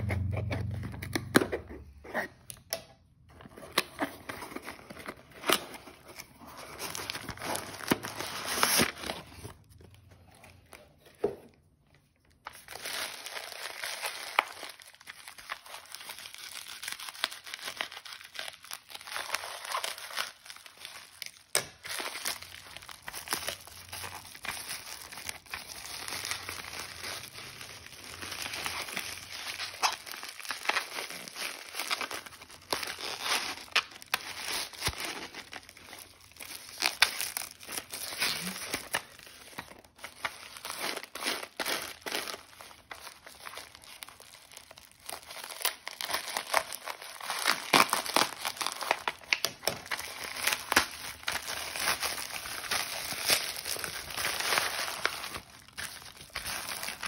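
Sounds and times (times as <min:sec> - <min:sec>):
plastic crinkling and tearing: 0:00.0 - 0:57.0.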